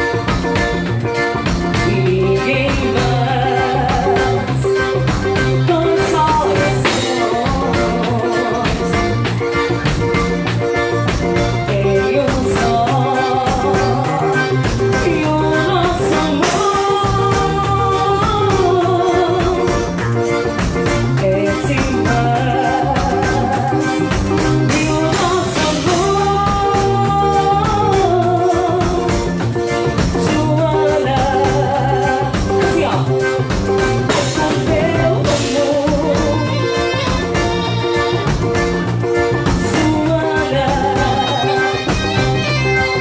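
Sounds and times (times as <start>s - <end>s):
accordion: 0.0s - 43.0s
drum kit: 0.0s - 43.0s
woman singing through microphone: 1.7s - 9.5s, 11.4s - 20.1s, 21.0s - 33.4s, 34.0s - 38.3s, 39.4s - 43.0s.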